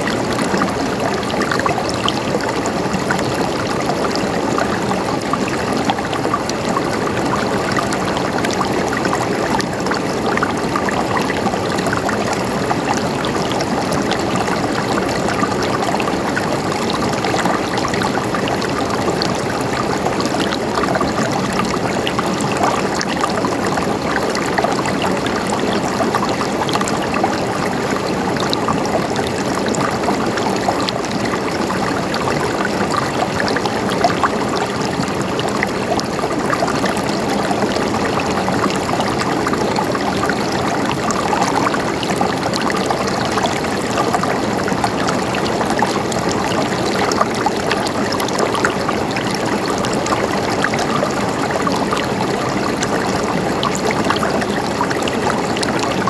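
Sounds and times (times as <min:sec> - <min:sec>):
water gurgling: 0:00.0 - 0:56.0
water splashes and drips: 0:00.0 - 0:56.0.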